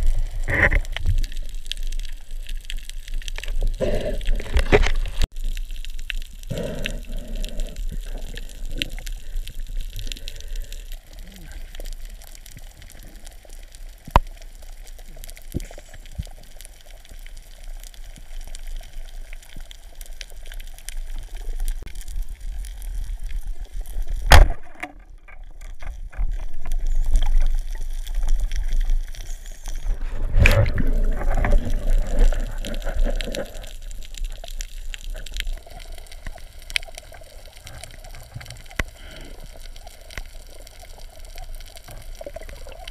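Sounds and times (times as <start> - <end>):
rumbling and bubbling: 0.0 - 42.9
underwater water movement: 0.0 - 42.9.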